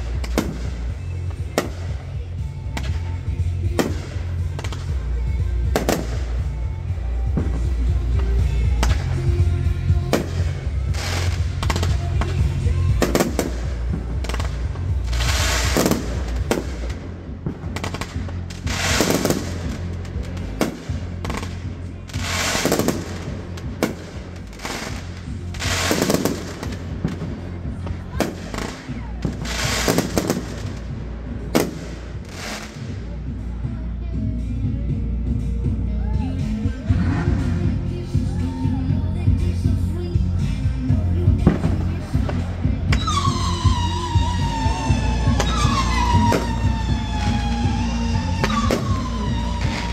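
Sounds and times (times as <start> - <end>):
bigger firework bursts: 0.0 - 33.2, 41.3 - 49.9.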